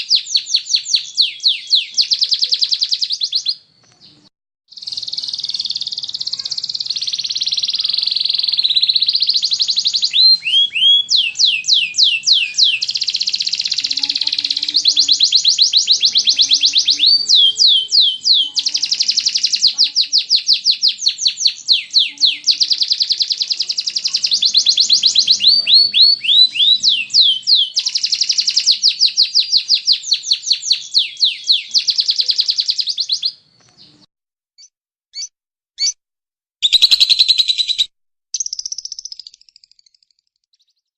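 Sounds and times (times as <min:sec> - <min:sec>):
canary singing trills: 0:00.0 - 0:36.0, 0:36.6 - 0:40.9.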